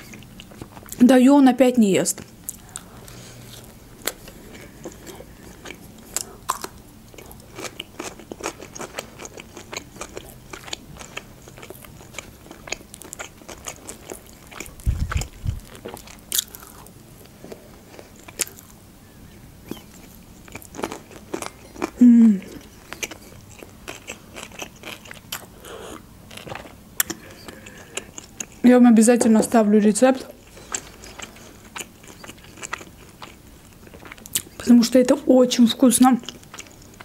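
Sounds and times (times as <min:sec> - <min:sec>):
chewing and crunching food: 0:00.0 - 0:01.0, 0:02.1 - 0:18.8, 0:19.6 - 0:29.6, 0:30.2 - 0:37.0.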